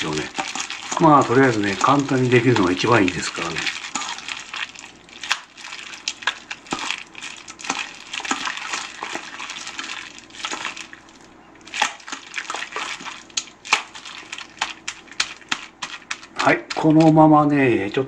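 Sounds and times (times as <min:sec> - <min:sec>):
wet squishes of kneading meat: 0:00.0 - 0:18.0.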